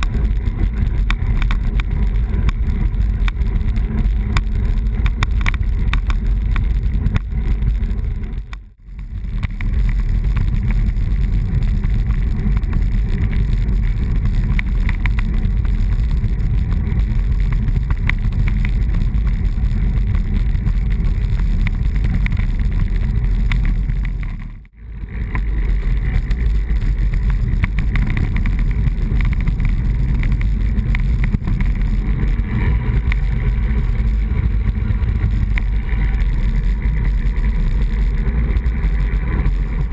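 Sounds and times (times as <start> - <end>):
tyre and road noise: 0.0 - 39.9
wind rumble on microphone: 0.0 - 39.9.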